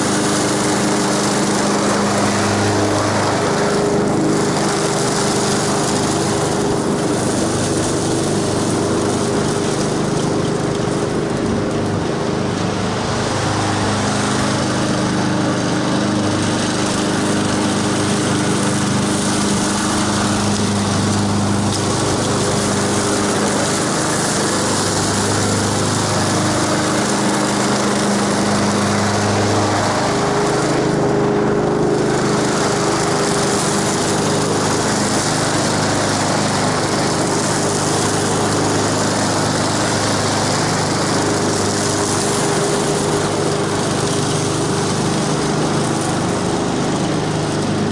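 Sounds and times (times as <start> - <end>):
lawn mower engine running: 0.0 - 47.9.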